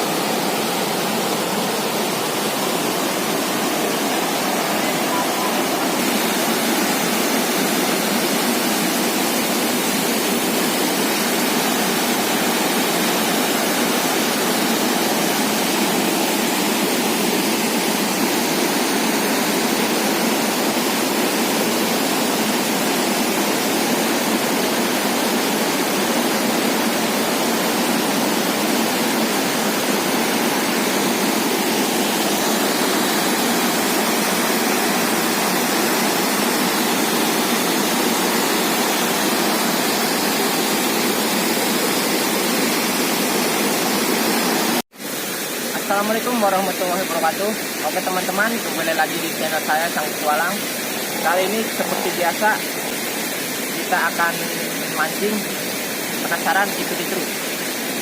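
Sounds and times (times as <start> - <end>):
waterfall and river rushing: 0.0 - 58.0.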